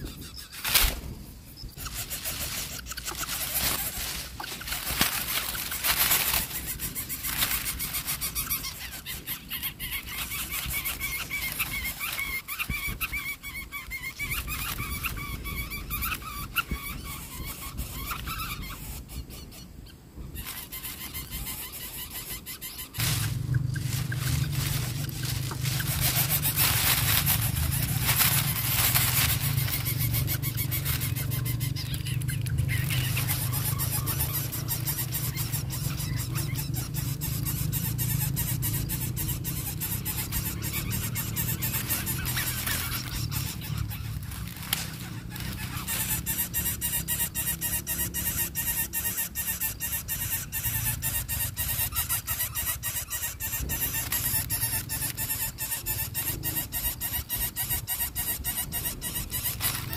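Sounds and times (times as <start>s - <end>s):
chicks squealing: 0.0s - 59.9s
steady low hum: 0.0s - 59.9s
dry grass rustling: 0.1s - 18.7s, 20.3s - 59.9s.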